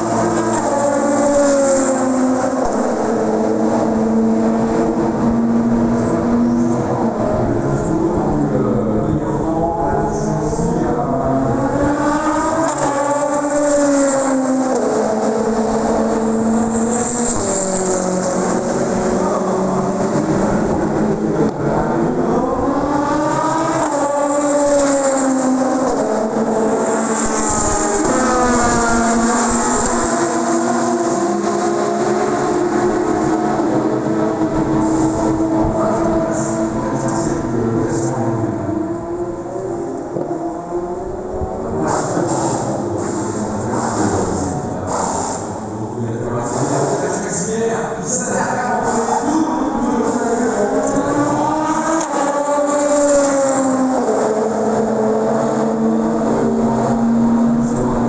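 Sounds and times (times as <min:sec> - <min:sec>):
race car engines running: 0:00.0 - 0:58.0.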